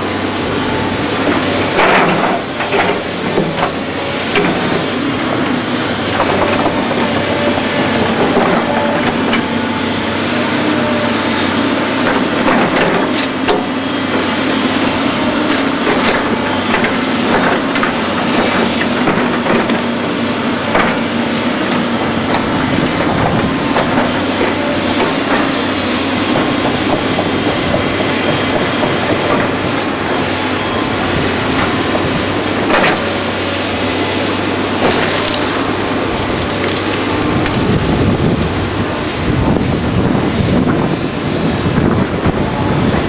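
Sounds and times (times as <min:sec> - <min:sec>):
excavator diesel engine running: 0:00.0 - 0:43.0
steel tracks clanking: 0:00.0 - 0:43.0.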